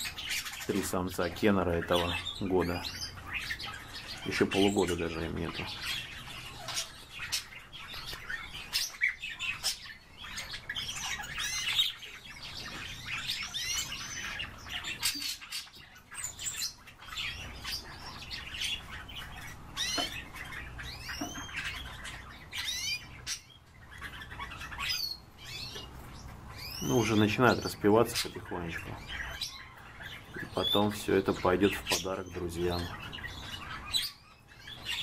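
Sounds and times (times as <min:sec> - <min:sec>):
canaries chirping and warbling: 0:00.0 - 0:35.0.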